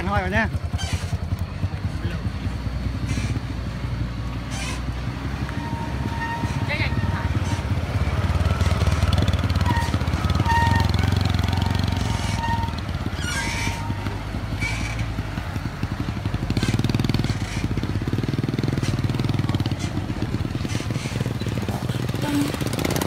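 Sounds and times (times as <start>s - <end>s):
motorcycle engine: 0.0s - 23.0s
truck engine under load: 0.0s - 23.0s.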